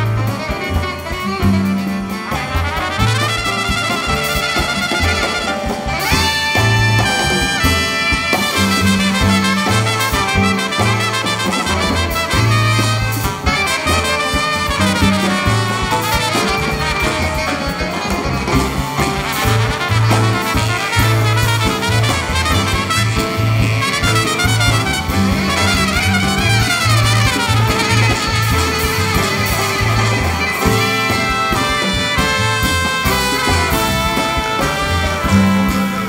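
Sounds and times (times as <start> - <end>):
jazz band playing: 0.0 - 36.0.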